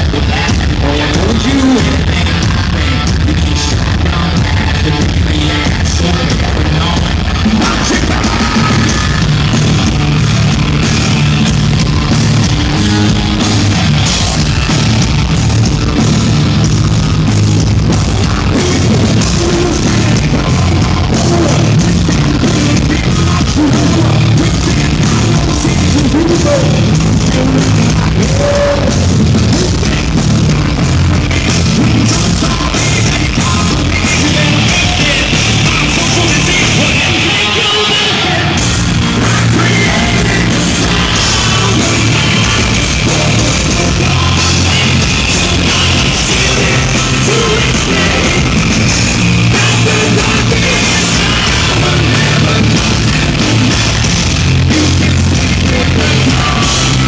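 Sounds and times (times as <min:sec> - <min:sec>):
man singing: 0:00.0 - 0:13.4, 0:15.9 - 0:57.0
rock band playing live: 0:00.0 - 0:57.0.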